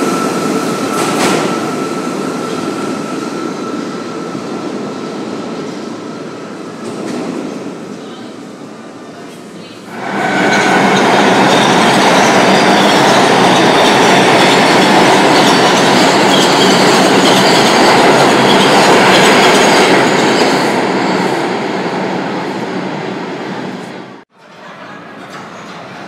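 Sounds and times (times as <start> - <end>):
subway train passing: 0.0 - 26.0.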